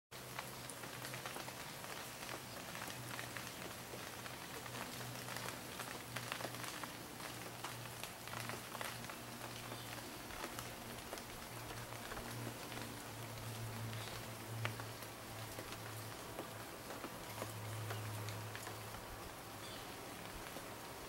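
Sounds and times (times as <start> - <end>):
rain hissing: 0.1 - 21.0
raindrops ticking on surfaces: 0.1 - 21.0.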